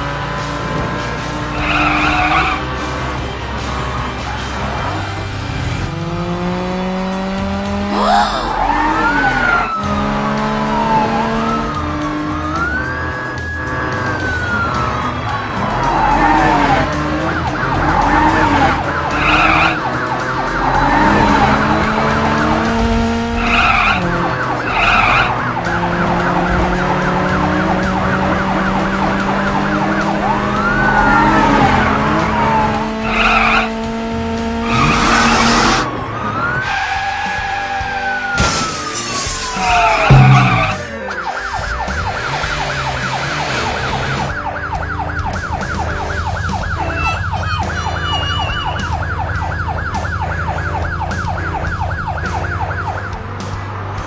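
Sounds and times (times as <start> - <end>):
police siren wailing: 0.0 - 3.0, 4.1 - 54.0
background music: 0.0 - 54.0
engine sound effects: 0.0 - 54.0
tyre skid effects: 0.0 - 54.0.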